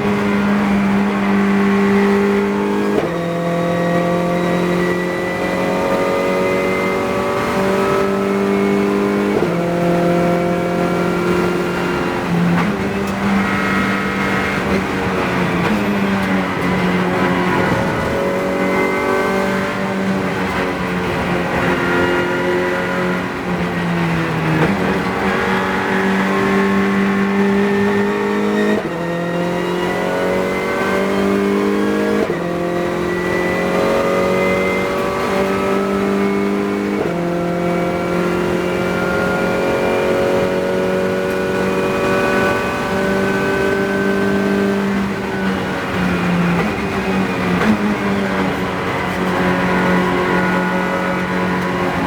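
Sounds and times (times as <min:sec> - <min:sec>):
race car engine accelerating: 0:00.0 - 0:52.0.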